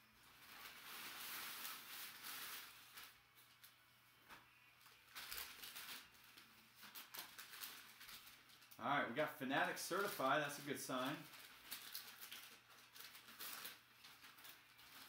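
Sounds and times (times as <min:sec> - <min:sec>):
packaging rustling and crinkling: 0:00.1 - 0:08.8, 0:09.5 - 0:15.0.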